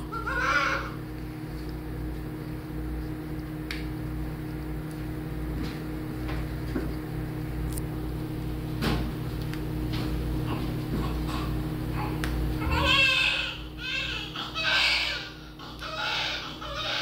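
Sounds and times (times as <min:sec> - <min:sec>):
mechanical room hum: 0:00.0 - 0:17.0.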